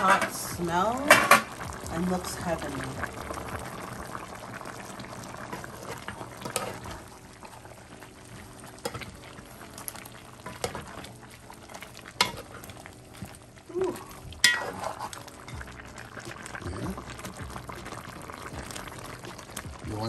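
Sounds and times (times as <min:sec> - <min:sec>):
stew bubbling in pot: 0:00.0 - 0:20.0.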